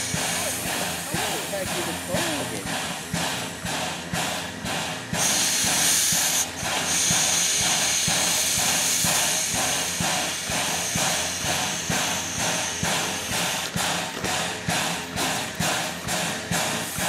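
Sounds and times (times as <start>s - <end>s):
steam locomotive venting steam: 0.0s - 17.0s.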